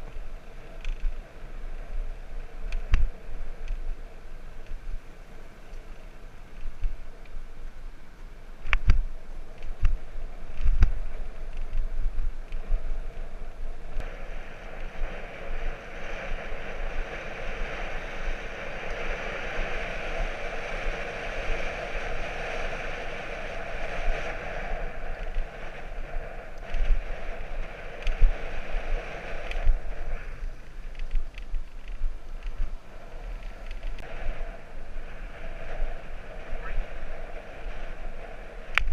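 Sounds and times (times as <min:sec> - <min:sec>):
bicycle tyre and road noise: 0:00.0 - 0:38.9
wind buffeting microphone: 0:00.0 - 0:38.9.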